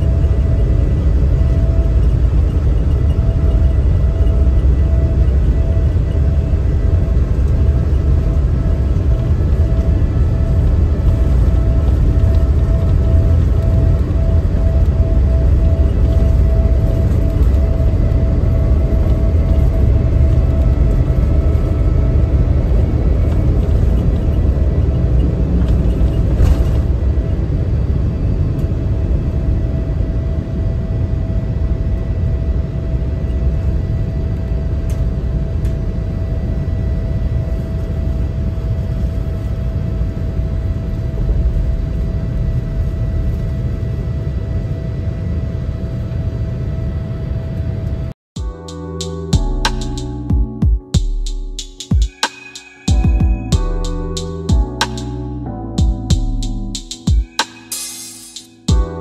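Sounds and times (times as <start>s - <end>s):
heavy low rumble: 0.0s - 43.7s, 48.4s - 57.8s, 58.4s - 59.0s
jet engine drone in cabin: 0.0s - 59.0s.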